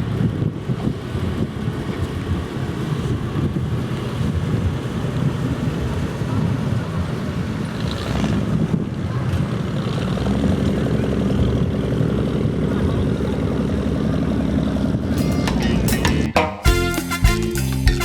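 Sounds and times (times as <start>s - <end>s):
wind buffeting microphone: 0.0s - 15.2s
car engines rumbling: 0.0s - 16.5s.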